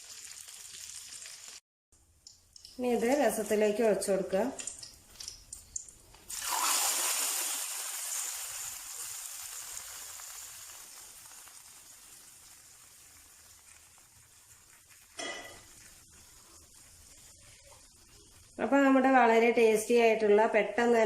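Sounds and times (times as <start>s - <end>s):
hot oil sizzling: 0.0s - 19.7s.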